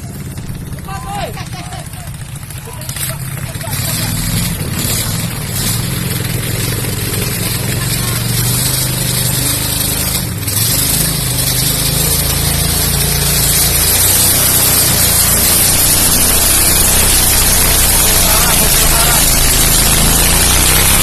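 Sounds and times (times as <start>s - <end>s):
motorboat approaching: 0.0s - 21.0s
small boat engines running: 0.0s - 21.0s.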